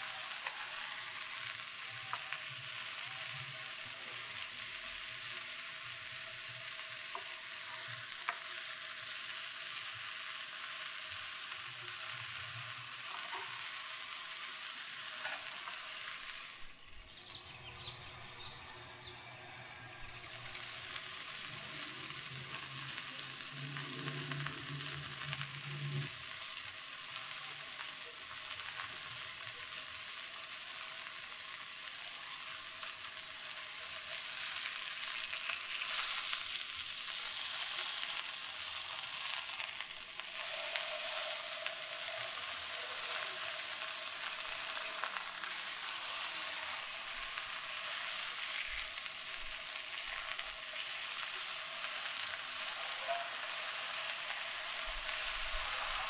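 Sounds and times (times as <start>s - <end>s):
burger patties sizzling in a frying pan: 0.0s - 56.0s.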